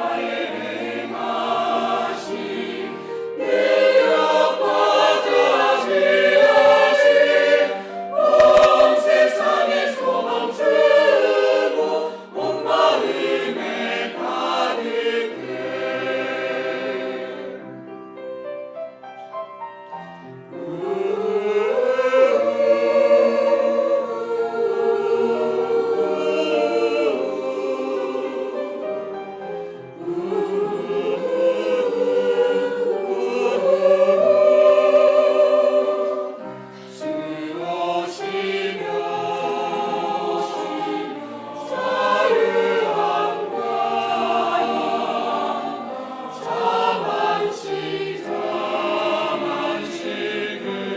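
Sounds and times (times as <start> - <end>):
church choir singing: 0.0 - 18.3, 19.9 - 50.9.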